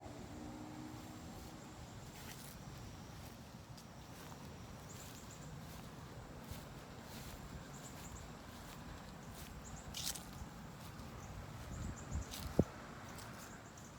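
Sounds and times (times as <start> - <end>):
footsteps walking: 1.0 - 13.8
birds chirping: 1.4 - 13.9.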